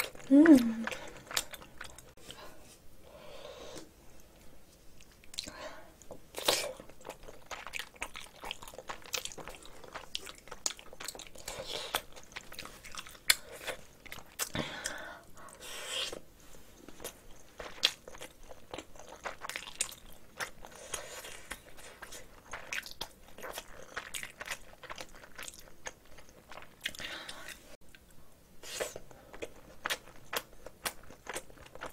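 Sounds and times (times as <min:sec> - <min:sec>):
close chewing with mouth clicks: 0:00.0 - 0:02.4, 0:05.0 - 0:31.9.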